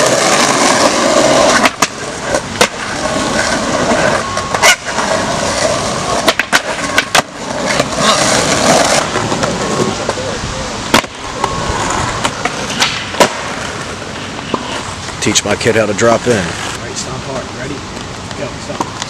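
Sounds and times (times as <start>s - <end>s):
skateboard wheels rolling: 0.0s - 19.0s
skateboards clacking on ground: 0.0s - 19.0s.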